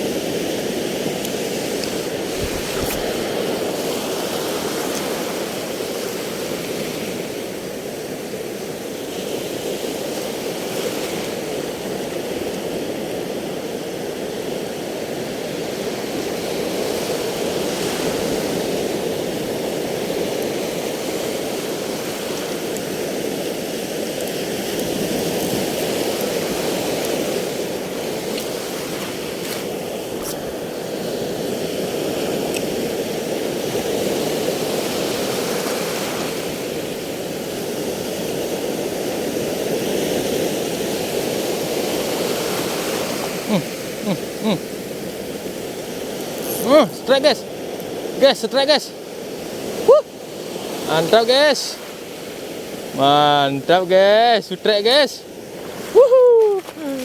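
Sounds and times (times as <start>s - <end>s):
sea waves washing: 0.0s - 57.0s.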